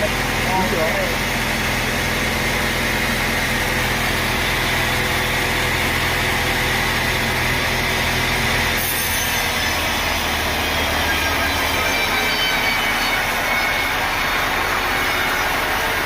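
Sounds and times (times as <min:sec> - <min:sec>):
sawmill machinery humming: 0:00.0 - 0:16.0.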